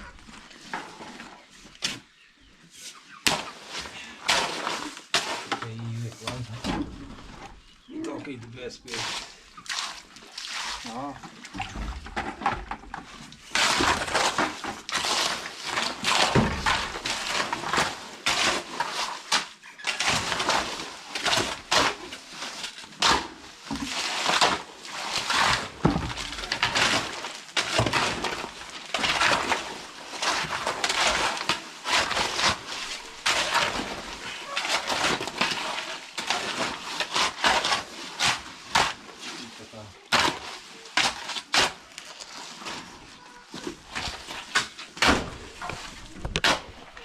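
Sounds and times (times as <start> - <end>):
tool scraping wet mortar: 2.8 - 7.4, 8.9 - 47.0.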